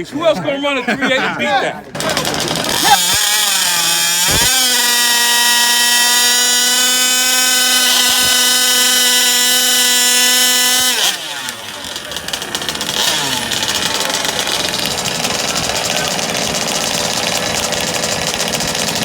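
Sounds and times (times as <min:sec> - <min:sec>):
two-stroke engine revving and idling: 0:01.9 - 0:19.0.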